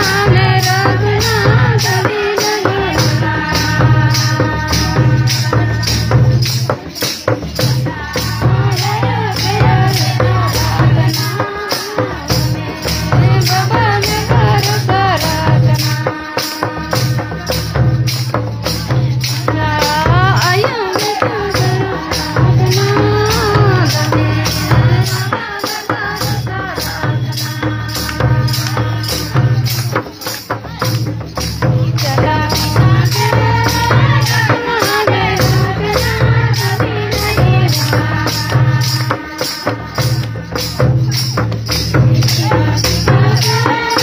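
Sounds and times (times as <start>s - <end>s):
rattle beat: 0.0s - 44.0s.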